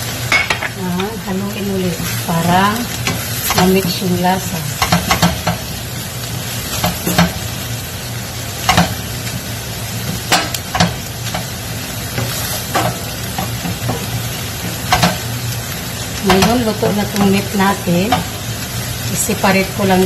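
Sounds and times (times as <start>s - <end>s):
meat and onions sizzling in a pan: 0.0s - 20.0s.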